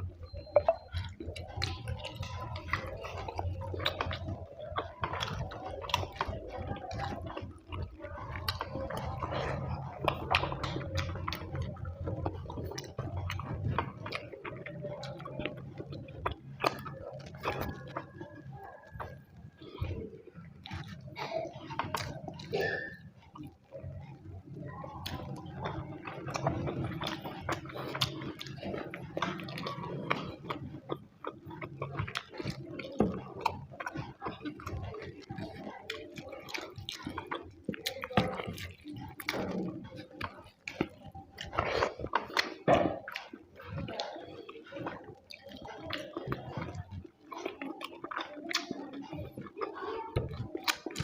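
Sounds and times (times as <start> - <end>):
chewing and mouth smacking: 0.0 - 51.0.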